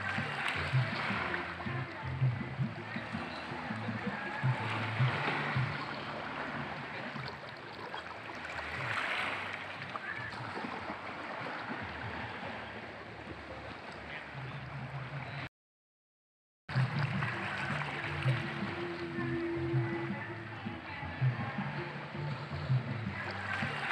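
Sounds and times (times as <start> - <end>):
waves lapping against boulders: 0.0 - 15.5, 16.7 - 23.9.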